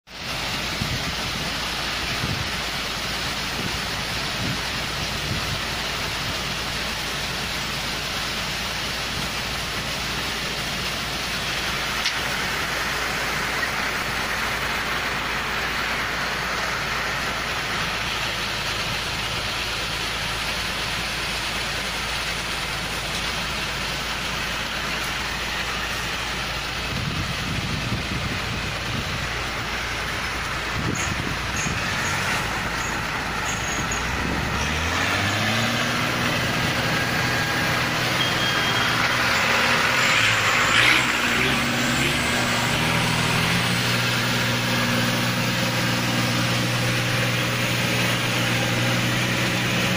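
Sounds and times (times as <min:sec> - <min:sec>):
combine harvester running: 0:00.1 - 0:49.9.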